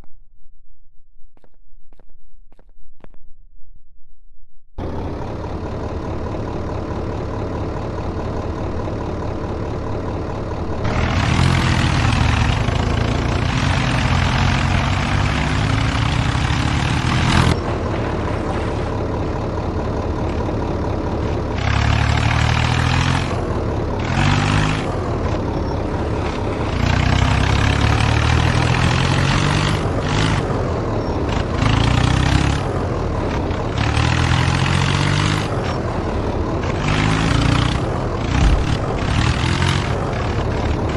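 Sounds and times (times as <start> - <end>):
tractor engines revving under load: 4.8 - 40.9.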